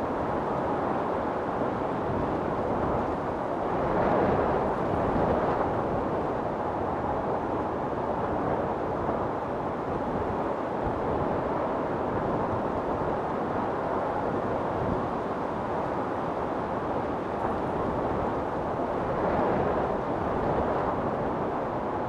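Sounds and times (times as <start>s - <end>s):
strong wind blowing: 0.0s - 22.0s.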